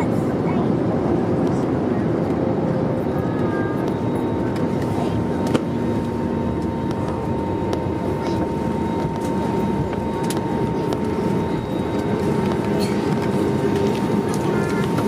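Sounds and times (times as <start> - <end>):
aircraft cabin rumble: 0.0 - 15.0
thin steady whine: 0.0 - 15.0.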